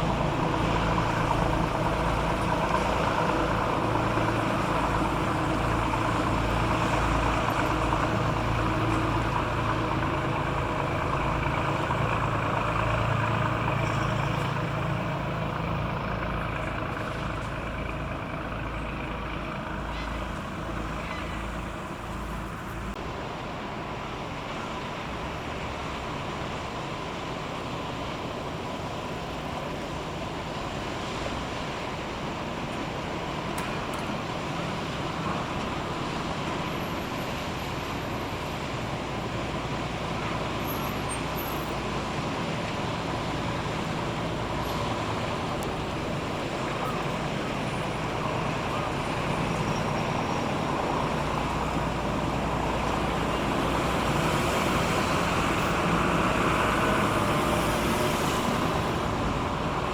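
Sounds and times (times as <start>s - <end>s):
engine rumble: 0.0s - 59.9s.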